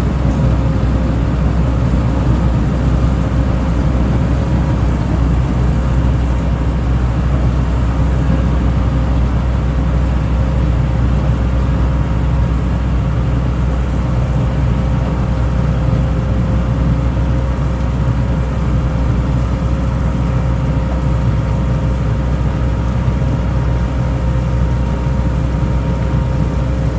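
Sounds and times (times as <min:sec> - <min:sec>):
road planer engine drone: 0:00.0 - 0:26.9.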